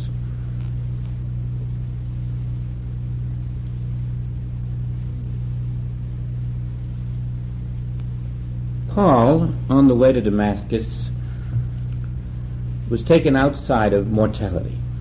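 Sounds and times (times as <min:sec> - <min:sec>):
electrical mains hum: 0:00.0 - 0:15.0
recording hiss: 0:00.0 - 0:15.0.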